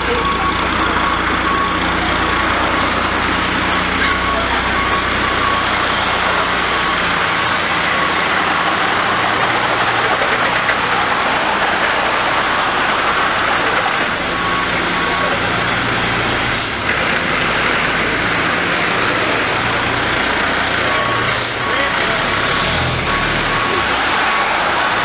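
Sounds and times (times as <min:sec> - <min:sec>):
fire truck diesel engine: 0:00.0 - 0:25.0
reversing alarm beeping: 0:00.0 - 0:25.0.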